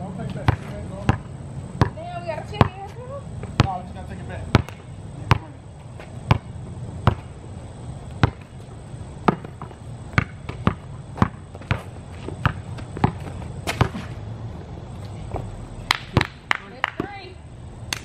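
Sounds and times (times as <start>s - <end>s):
basketball bouncing on asphalt: 0.2s - 7.4s, 8.0s - 14.3s, 15.0s - 17.4s.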